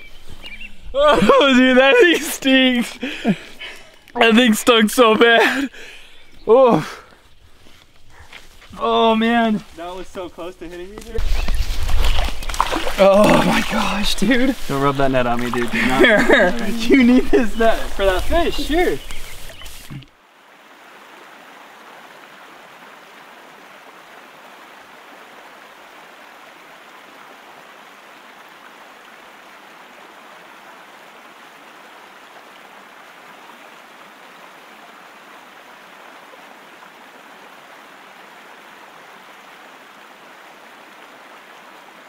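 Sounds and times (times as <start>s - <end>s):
creek water flowing: 0.0s - 42.0s.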